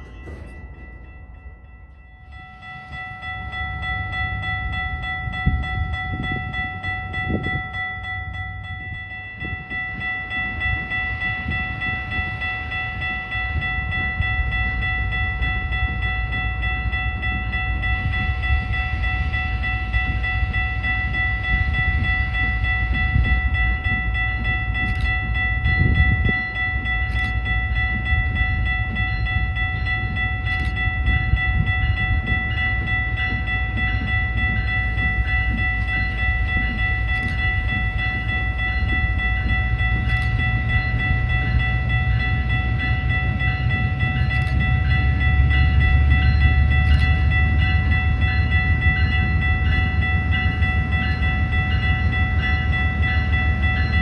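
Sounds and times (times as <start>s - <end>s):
train cars rumbling on rails: 0.0s - 54.0s.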